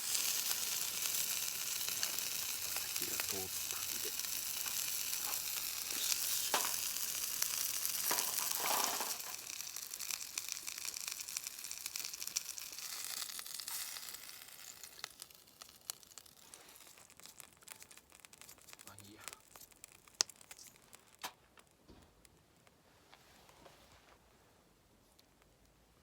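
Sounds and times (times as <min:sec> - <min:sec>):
food sizzling in a pan: 0:00.0 - 0:21.3.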